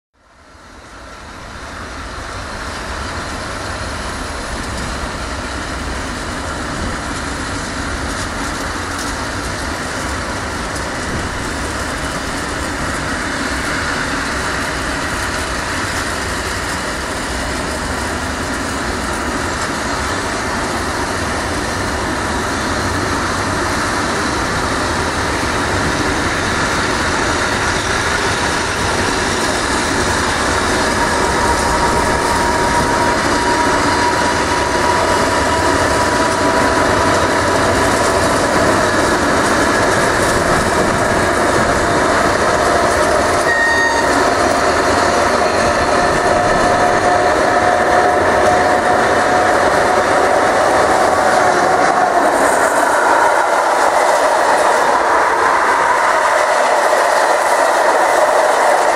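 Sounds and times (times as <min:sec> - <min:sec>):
freight train rolling past: 0:00.2 - 0:58.9.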